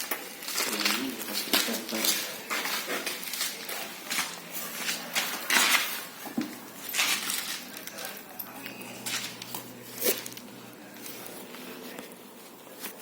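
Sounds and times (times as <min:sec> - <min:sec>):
small objects clattering and rustling: 0:00.0 - 0:13.0.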